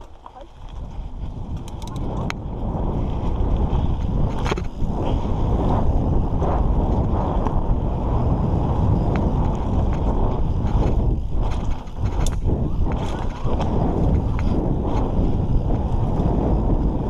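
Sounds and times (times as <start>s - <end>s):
bike parts rattling: 0.0s - 16.6s
wind buffeting microphone: 0.0s - 17.0s.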